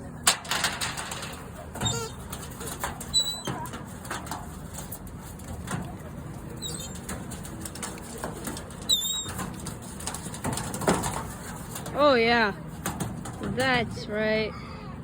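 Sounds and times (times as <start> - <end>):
wings flapping and scuffling: 0.5 - 14.0.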